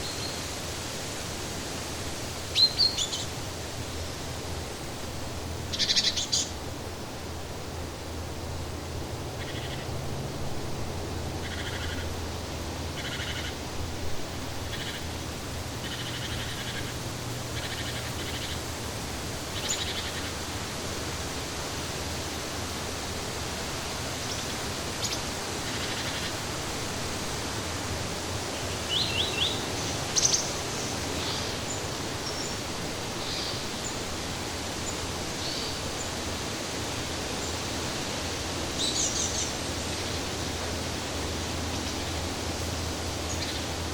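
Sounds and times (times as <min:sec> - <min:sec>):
steady outdoor hiss: 0:00.0 - 0:43.9.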